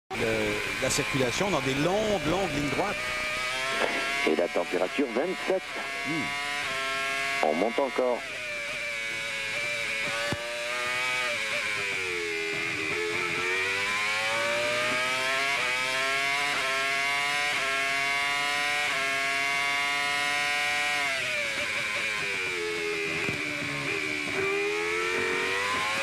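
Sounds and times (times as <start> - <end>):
racing car engine at high revs: 0.1 - 26.0.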